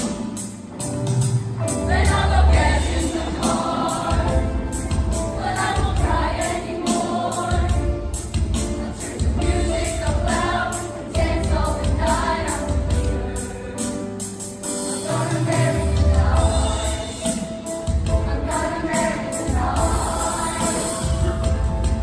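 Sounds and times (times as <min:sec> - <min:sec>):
music with steady beat: 0:00.0 - 0:22.0
group of voices singing: 0:01.8 - 0:22.0.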